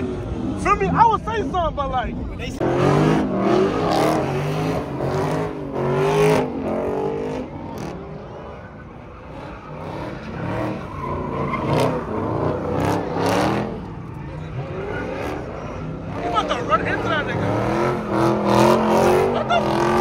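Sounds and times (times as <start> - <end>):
car engines running: 0.0 - 20.0
people's voices: 0.0 - 20.0.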